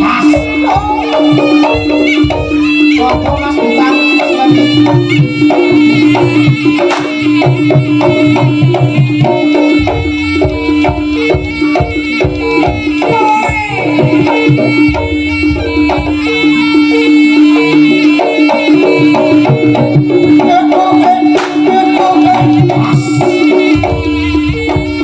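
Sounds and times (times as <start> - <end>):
hand drums quick beat: 0.0 - 16.7, 17.4 - 25.0
higher melody line: 0.0 - 25.0.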